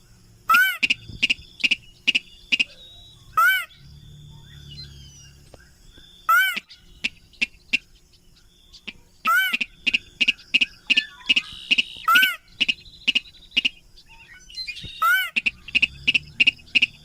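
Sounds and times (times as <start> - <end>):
crake calls: 0.0 - 17.0.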